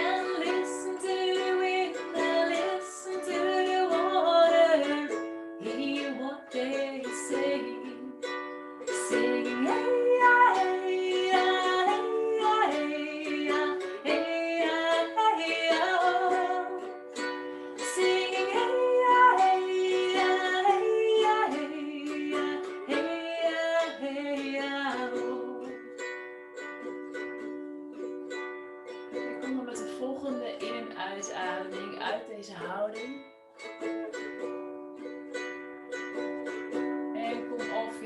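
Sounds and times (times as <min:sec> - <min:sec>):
plucked strings: 0:00.0 - 0:38.0.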